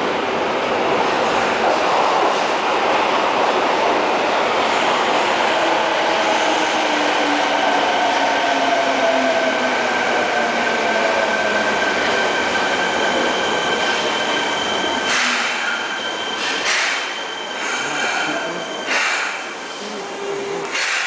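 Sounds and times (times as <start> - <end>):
subway train braking rumble: 0.0 - 21.0.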